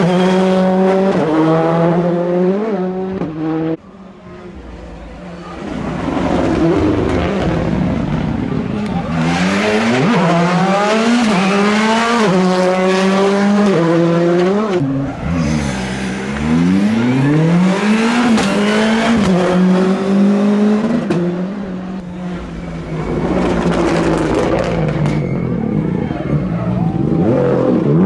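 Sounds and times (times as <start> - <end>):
rally cars passing at speed: 0.0 - 28.0.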